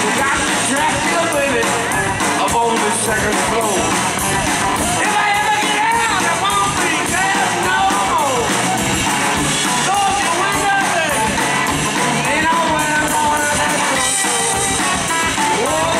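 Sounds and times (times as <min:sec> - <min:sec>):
rock band playing: 0:00.0 - 0:15.9.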